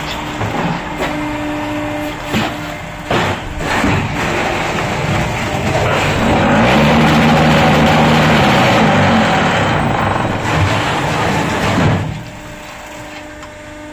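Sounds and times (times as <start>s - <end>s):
heavy machinery engine drone: 0.0s - 13.9s.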